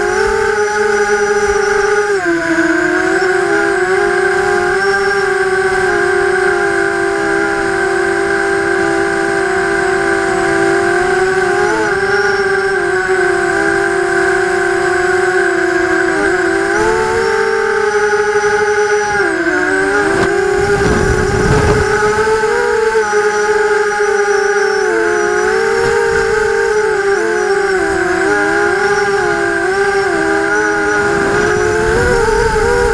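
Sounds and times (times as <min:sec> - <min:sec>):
drone motors and propellers whining: 0:00.0 - 0:32.9.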